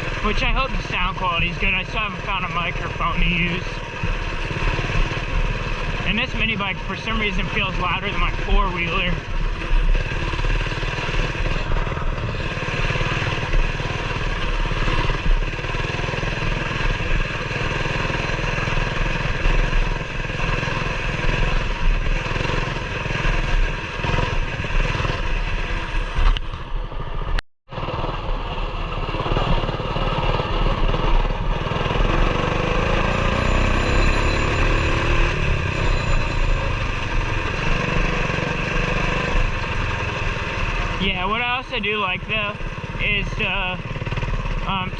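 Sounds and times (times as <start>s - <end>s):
mini bike engine running: 0.0s - 44.9s.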